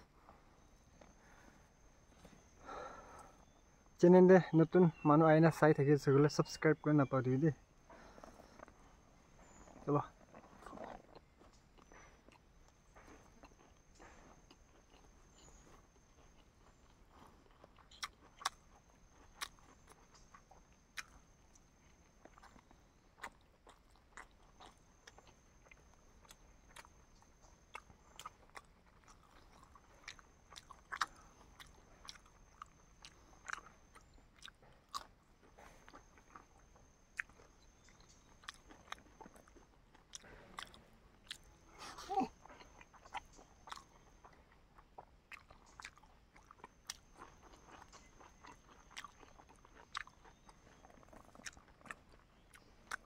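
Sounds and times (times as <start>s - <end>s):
person chewing and biting: 9.4s - 53.0s.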